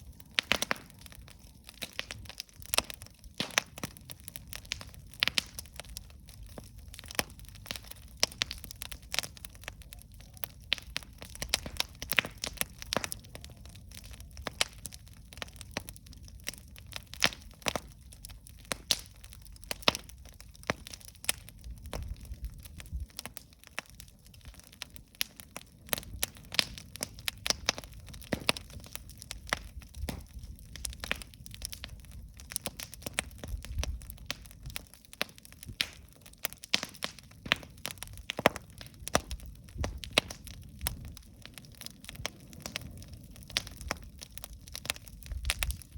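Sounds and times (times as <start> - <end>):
campfire pops and crackles: 0.0 - 45.9
low rumble of flames: 0.0 - 45.9.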